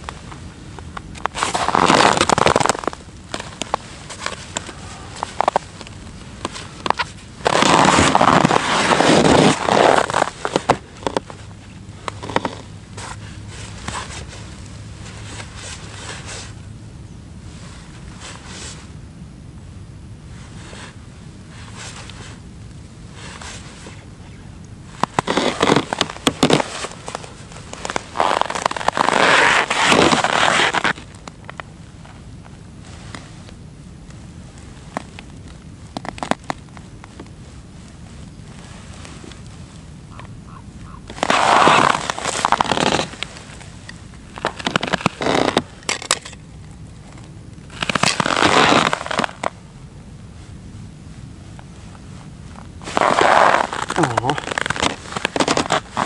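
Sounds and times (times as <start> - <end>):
rustling crackling handling noise: 0.0 - 16.6, 24.6 - 49.6, 50.4 - 56.0
snow and ice crunching underfoot: 0.0 - 16.6, 24.8 - 33.5, 34.1 - 56.0.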